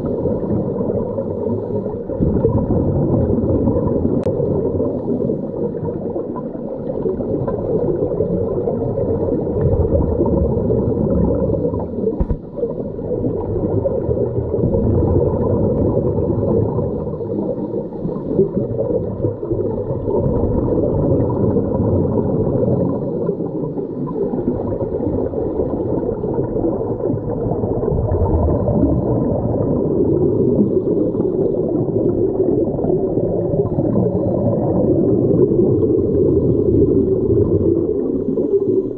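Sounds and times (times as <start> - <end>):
underwater diver exhaling bubbles: 0.0 - 38.9.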